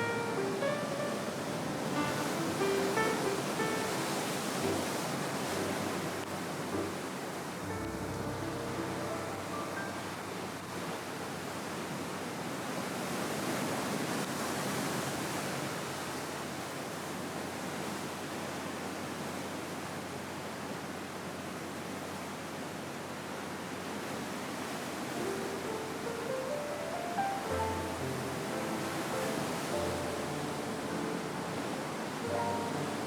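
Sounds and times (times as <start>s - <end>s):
sea waves on shore: 0.0s - 33.0s.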